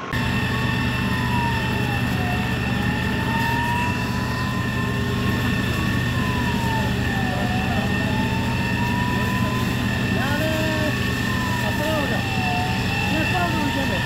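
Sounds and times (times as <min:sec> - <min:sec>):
fire engine siren wailing: 0:00.0 - 0:14.0
mechanical drone with high whine: 0:00.0 - 0:14.0.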